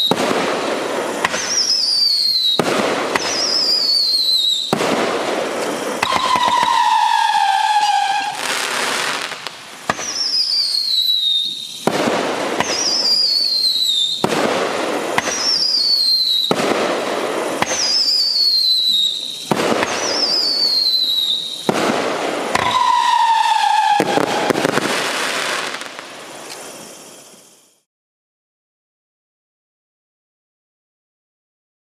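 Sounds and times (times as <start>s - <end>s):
firework bursts: 0.0s - 27.6s
whistling firework shots: 0.0s - 27.9s.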